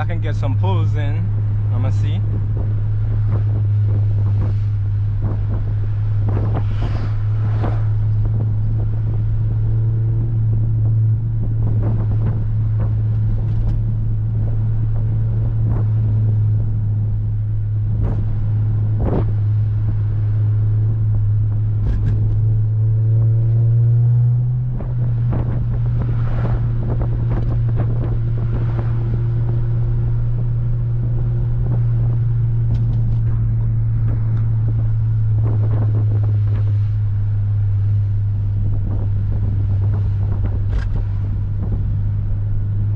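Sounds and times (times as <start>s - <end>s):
car engine and exhaust drone: 0.0s - 42.9s.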